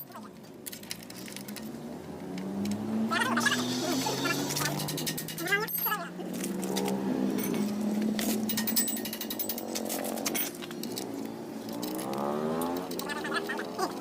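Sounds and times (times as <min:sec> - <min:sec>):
two-stroke motorcycle engine revving: 0:01.7 - 0:05.4, 0:06.4 - 0:14.0.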